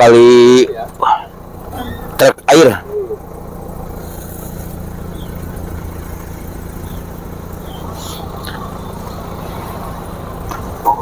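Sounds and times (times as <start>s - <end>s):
jeep engine running: 0.0s - 11.0s.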